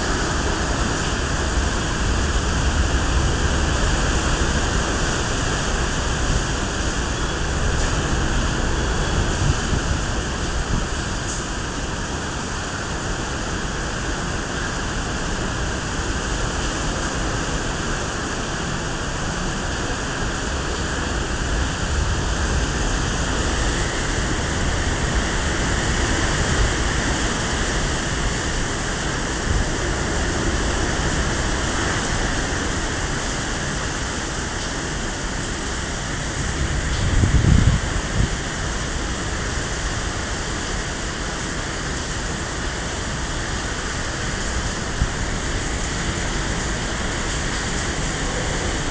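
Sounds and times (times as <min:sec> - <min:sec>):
heavy wind and rain: 0:00.0 - 0:48.9
wind buffeting microphone: 0:00.0 - 0:48.9.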